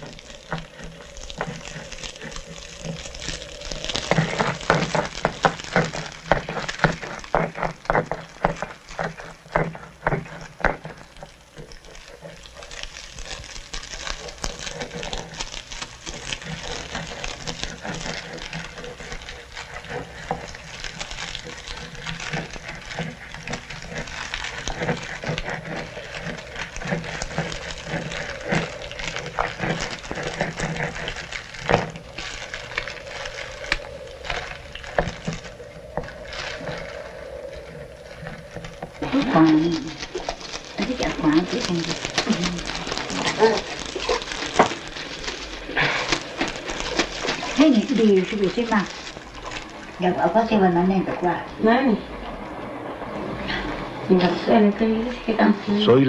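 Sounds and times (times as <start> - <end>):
steady low hum: 0.0 - 56.0
wood fire crackling and hissing: 0.0 - 56.0.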